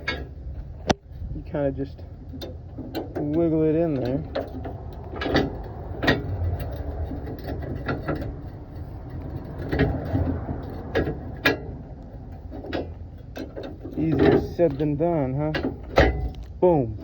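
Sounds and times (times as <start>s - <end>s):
metal clicks and clanks: 0.0s - 1.2s, 2.0s - 17.0s
low rumble: 0.0s - 17.0s.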